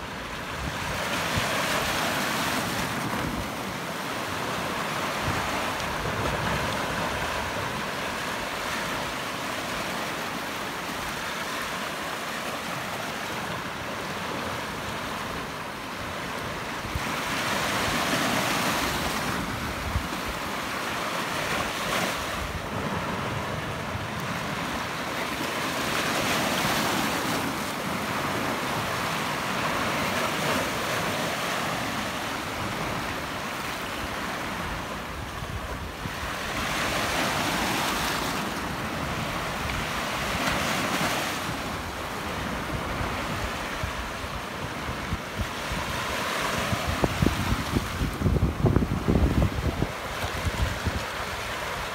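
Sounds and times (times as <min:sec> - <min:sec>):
waves washing over rock: 0:00.0 - 0:51.9.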